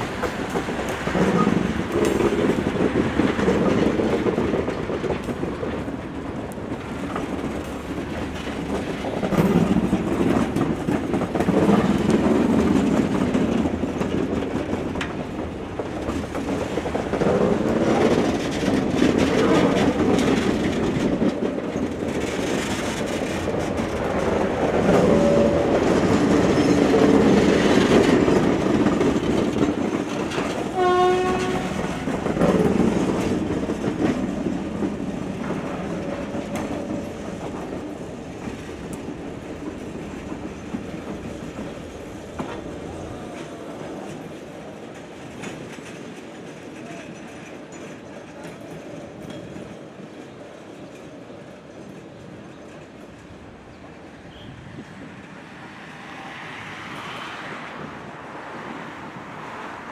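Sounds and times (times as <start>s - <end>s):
train wagons rumbling over rail joints: 0.0s - 59.8s.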